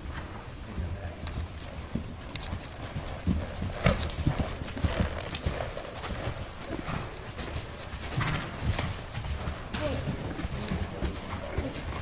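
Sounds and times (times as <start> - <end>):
horse hoofbeats: 0.0 - 12.0.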